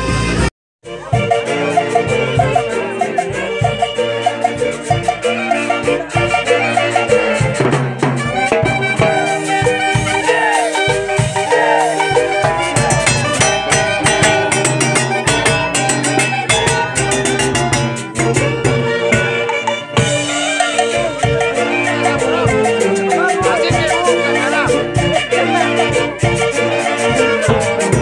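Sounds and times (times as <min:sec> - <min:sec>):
festive music with percussion: 0:00.0 - 0:28.0.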